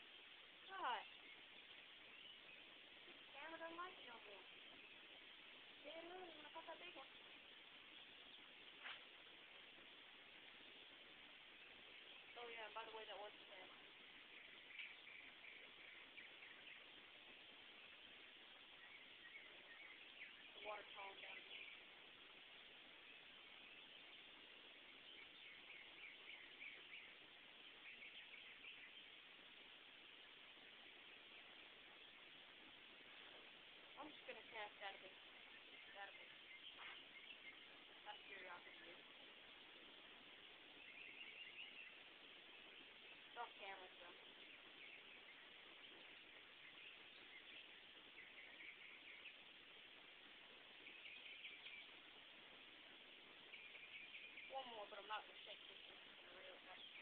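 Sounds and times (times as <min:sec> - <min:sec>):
faint bird chirps: 0:00.0 - 0:57.0
steady low hiss: 0:00.0 - 0:57.0.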